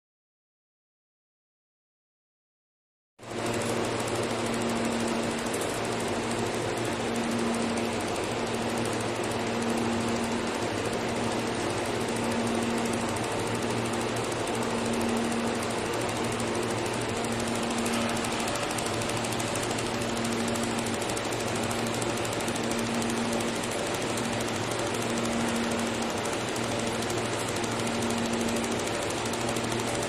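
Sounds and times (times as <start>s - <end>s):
laser welding machine humming: 3.2s - 30.0s.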